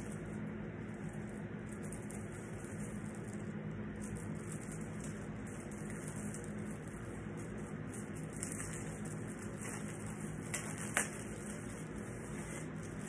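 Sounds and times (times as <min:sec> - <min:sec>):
low background hum: 0:00.0 - 0:13.0
wrapping crackling rustle: 0:00.0 - 0:13.0.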